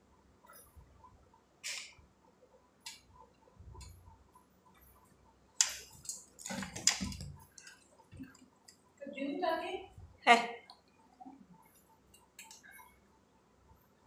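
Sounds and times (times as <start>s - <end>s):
faint regular ticking: 0.4s - 6.4s, 7.1s - 9.2s, 10.6s - 14.0s.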